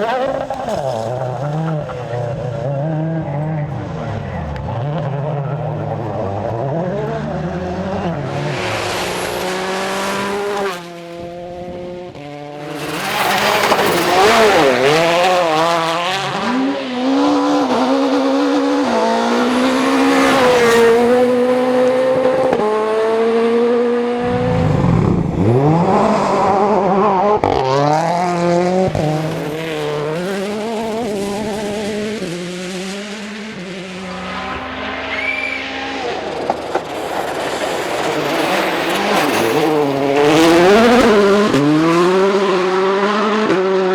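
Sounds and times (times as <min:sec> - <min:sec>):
rally cars revving past: 0:00.0 - 0:43.9.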